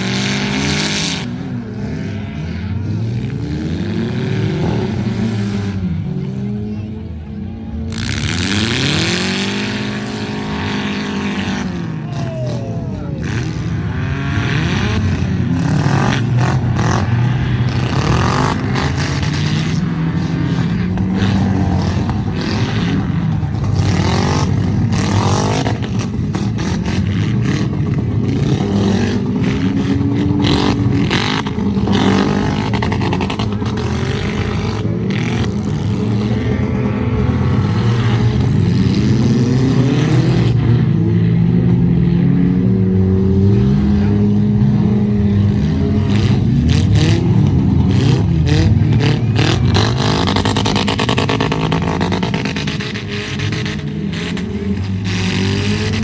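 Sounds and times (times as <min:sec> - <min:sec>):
engines revving: 0:00.0 - 0:56.0.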